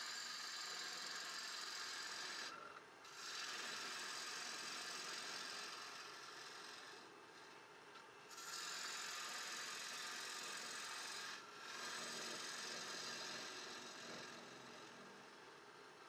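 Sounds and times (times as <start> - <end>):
gouge shearing wood on lathe: 0.0 - 7.6, 8.3 - 15.6
lathe motor humming: 0.0 - 7.6, 8.3 - 15.6.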